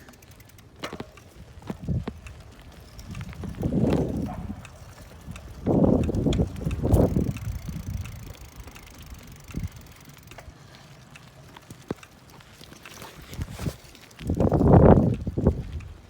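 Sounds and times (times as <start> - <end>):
bicycle rattles and clicks: 0.0 - 16.0
bicycle tyres rolling on pavement: 0.0 - 16.0.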